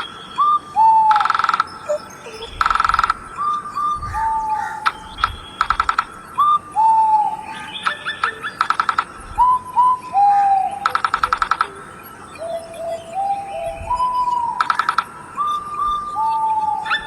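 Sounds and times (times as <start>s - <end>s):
birds trilling: 0.0s - 17.0s.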